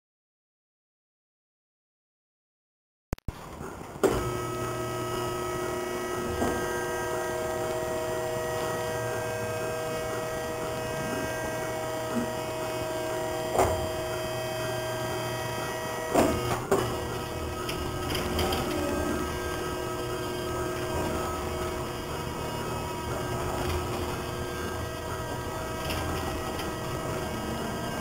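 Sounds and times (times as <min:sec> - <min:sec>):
electric motor hum: 0:03.3 - 0:28.0.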